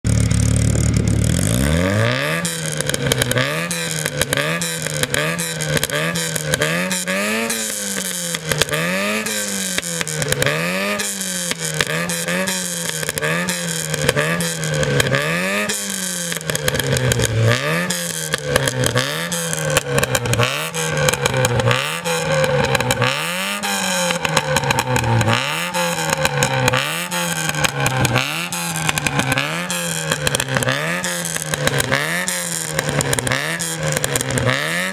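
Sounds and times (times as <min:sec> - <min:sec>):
car engine revving in blips: 0:00.0 - 0:34.9
exhaust crackles and pops: 0:00.0 - 0:34.9.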